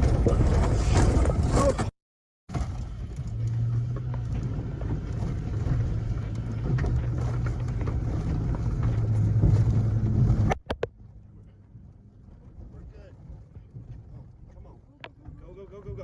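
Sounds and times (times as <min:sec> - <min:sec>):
vehicle engine humming: 0:02.5 - 0:16.0.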